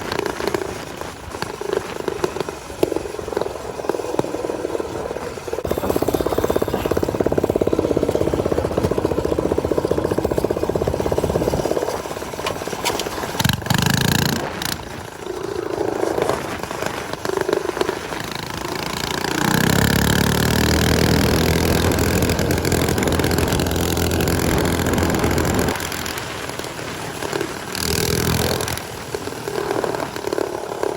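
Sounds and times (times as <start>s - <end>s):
small motorcycle engines running: 0.0s - 30.9s.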